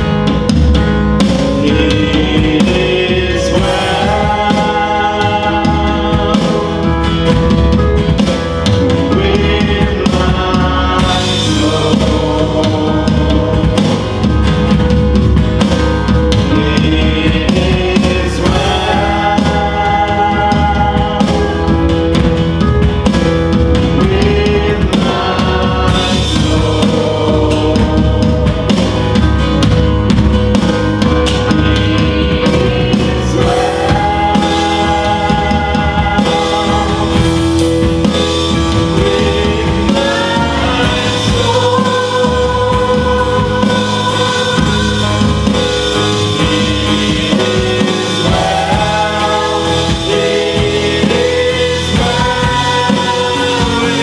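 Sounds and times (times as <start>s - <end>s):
person singing: 0.0s - 29.8s, 31.1s - 54.0s
bass: 0.0s - 54.0s
drum kit: 0.0s - 54.0s
live worship band music: 0.0s - 54.0s.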